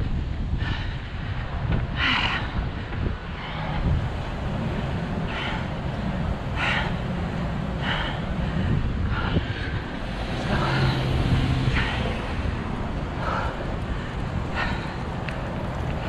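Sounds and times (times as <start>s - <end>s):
traffic: 0.0s - 16.0s
wind rumbling on microphone: 0.0s - 16.0s.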